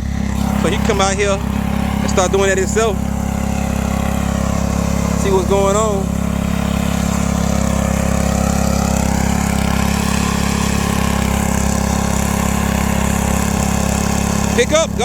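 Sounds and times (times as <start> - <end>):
garden tiller engine running: 0.0 - 15.0.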